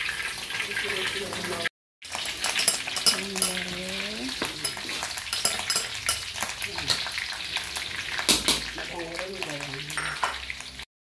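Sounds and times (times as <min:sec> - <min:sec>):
food sizzling in hot oil: 0:00.0 - 0:10.9.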